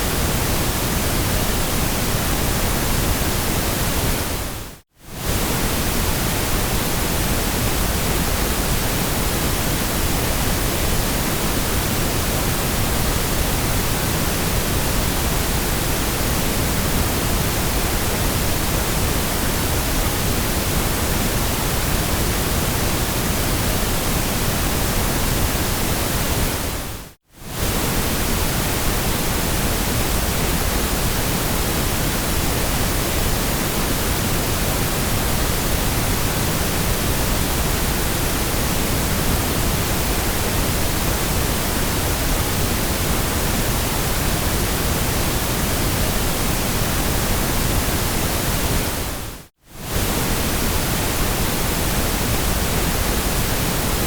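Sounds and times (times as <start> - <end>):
white noise hissing: 0.0 - 54.0.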